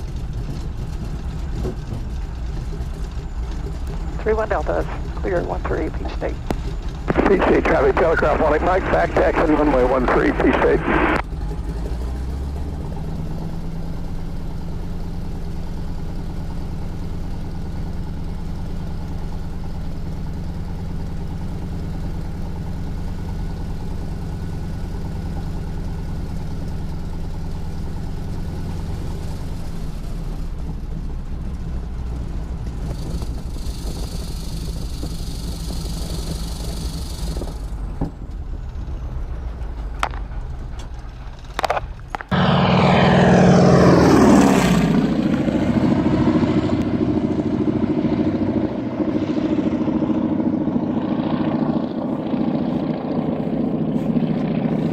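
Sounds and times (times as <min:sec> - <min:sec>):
radial aircraft engine running: 0:00.0 - 0:54.9.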